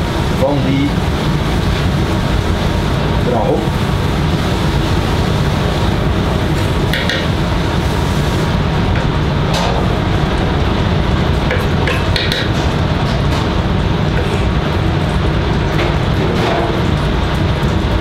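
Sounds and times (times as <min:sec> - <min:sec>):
loud low rumble: 0:00.0 - 0:18.0.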